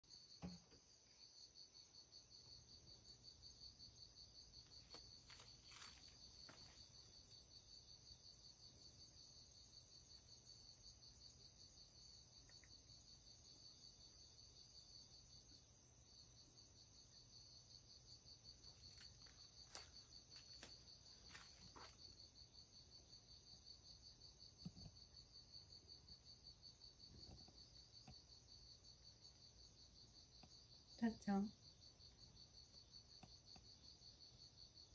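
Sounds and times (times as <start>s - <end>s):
crickets trilling: 0.1s - 34.9s.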